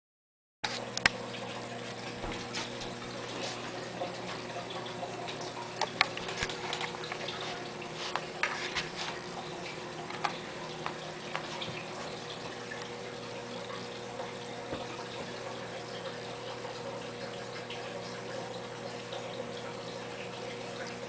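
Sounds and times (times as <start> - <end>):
background hum and hiss: 0.7 - 21.0.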